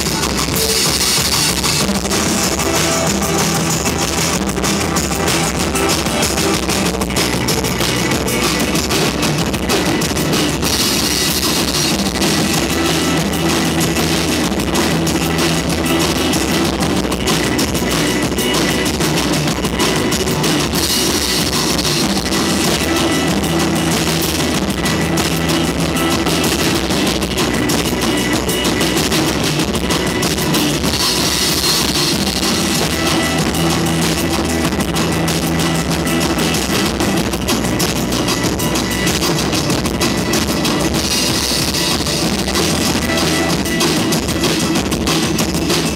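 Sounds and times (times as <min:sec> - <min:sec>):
drums and cymbals struck hard: 0:00.0 - 0:45.9
live rock band playing: 0:00.0 - 0:45.9.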